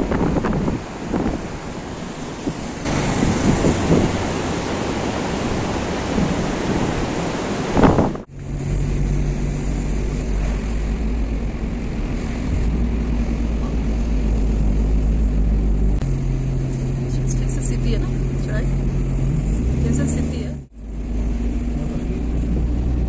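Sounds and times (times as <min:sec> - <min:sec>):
car interior engine and road drone: 0:00.0 - 0:23.0
wind buffeting microphone: 0:00.0 - 0:23.0.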